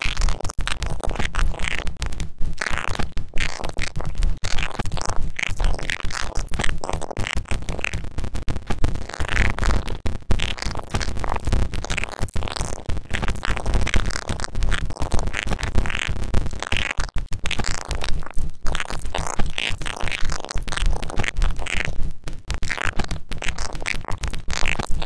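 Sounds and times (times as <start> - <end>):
vinyl-style noise: 0.0 - 25.0.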